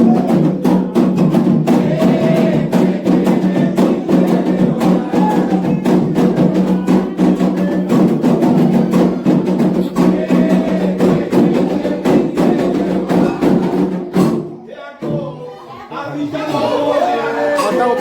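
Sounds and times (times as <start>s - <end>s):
hand drums playing fast: 0.0s - 15.4s.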